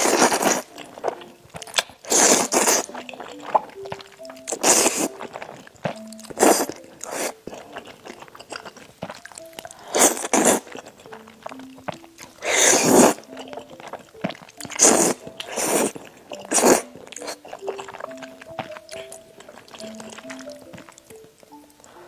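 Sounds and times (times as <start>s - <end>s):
loud slurping or biting: 0.0s - 21.2s
faint background melody: 0.0s - 22.0s
quiet chewing: 0.0s - 22.0s.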